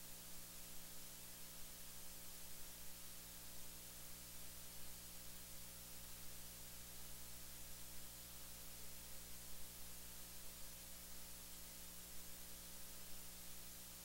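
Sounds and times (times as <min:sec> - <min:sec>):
faint steady hiss: 0:00.0 - 0:14.0
low electrical hum: 0:00.0 - 0:14.0.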